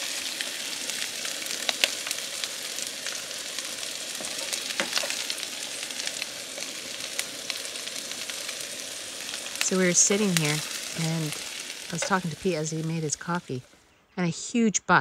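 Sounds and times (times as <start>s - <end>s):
eggs sizzling in oil: 0.0s - 13.8s.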